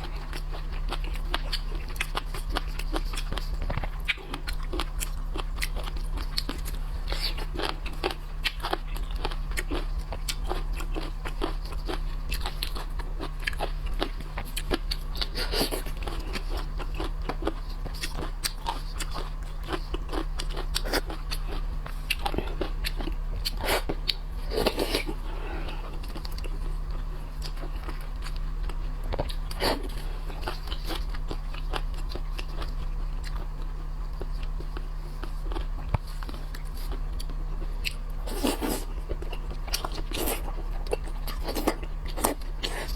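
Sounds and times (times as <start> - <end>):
low electrical hum: 0.0 - 42.9
wet chewing with crunches: 0.0 - 42.9.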